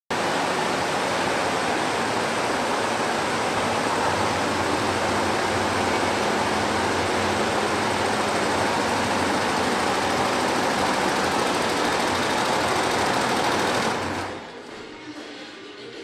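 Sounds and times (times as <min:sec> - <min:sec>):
embroidery machine stitching: 0:00.1 - 0:14.5.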